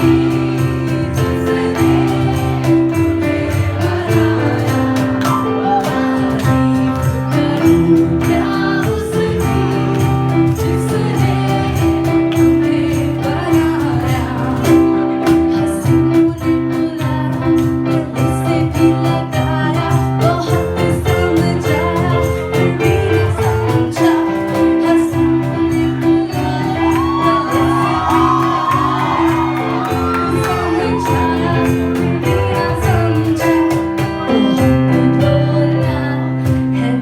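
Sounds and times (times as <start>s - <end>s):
jingling percussion: 0.0s - 36.7s
retro film song with singing: 0.0s - 37.0s.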